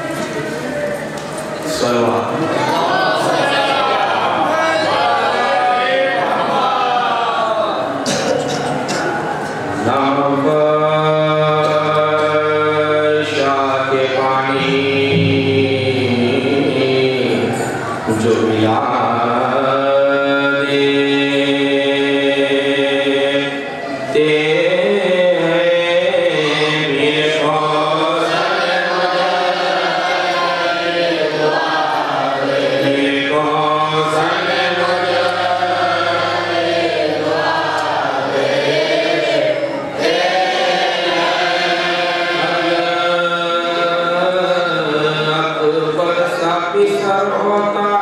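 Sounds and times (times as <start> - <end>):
men chanting into a microphone: 1.7 - 8.3, 9.6 - 48.0.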